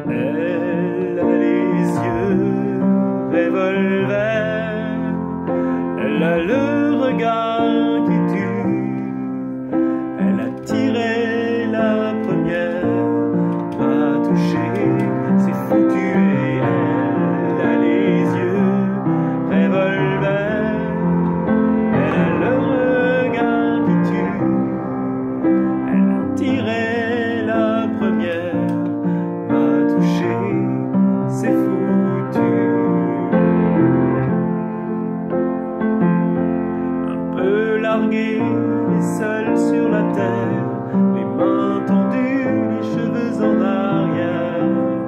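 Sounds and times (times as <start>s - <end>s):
upright piano playing ballad: 0.0s - 45.0s.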